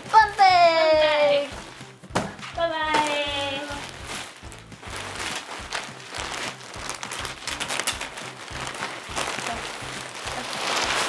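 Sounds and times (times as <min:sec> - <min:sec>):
background music: 0:00.0 - 0:11.0
plastic bags crinkling: 0:00.0 - 0:11.0.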